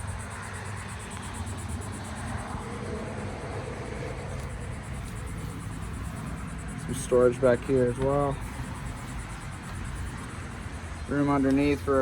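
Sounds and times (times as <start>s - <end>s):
faint fast high pulsing: 0.0s - 12.0s
low rumble of outdoor background noise: 0.0s - 12.0s.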